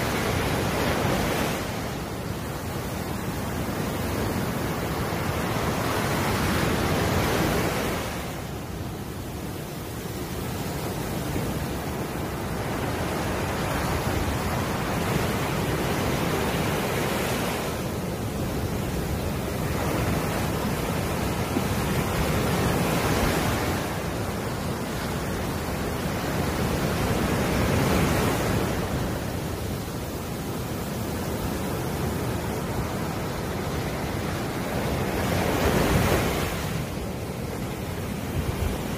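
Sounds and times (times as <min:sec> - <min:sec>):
ocean surf breaking on beach: 0:00.0 - 0:38.9.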